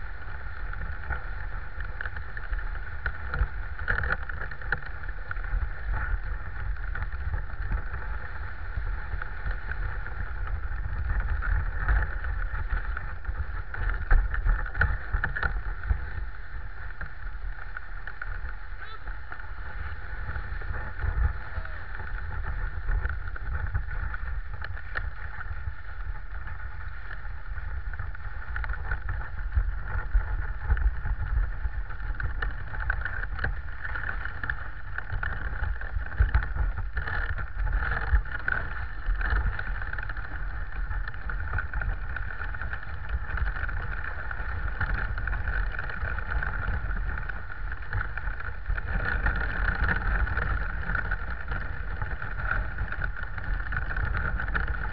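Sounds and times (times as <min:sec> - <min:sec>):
sled rumble: 0:00.0 - 0:54.9
sled runners scraping snow: 0:00.0 - 0:54.9.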